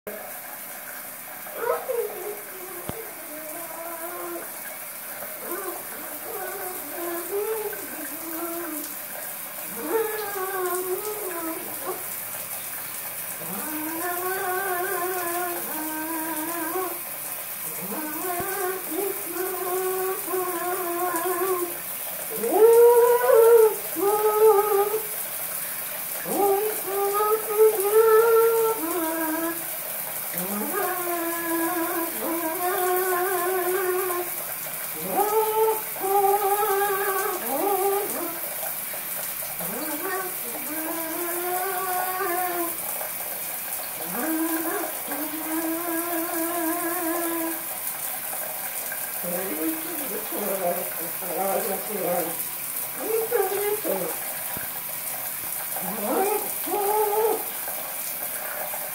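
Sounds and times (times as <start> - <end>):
shower running: 0.0 - 58.9.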